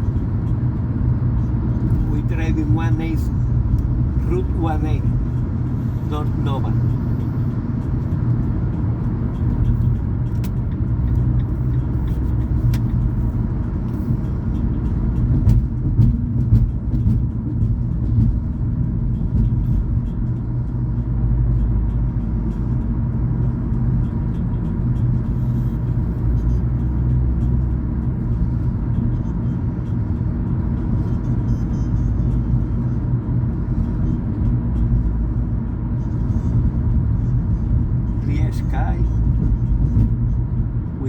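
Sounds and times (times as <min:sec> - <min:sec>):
car tyres and engine rumble: 0:00.0 - 0:41.0.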